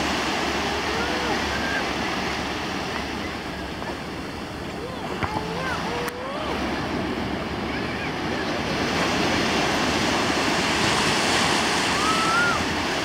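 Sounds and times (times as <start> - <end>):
ocean surf washing in: 0.0 - 13.0.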